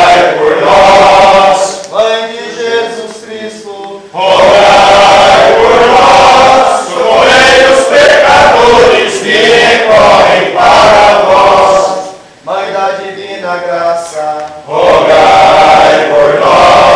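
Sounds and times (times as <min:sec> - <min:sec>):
men chanting: 0:00.0 - 0:13.5, 0:14.7 - 0:16.9.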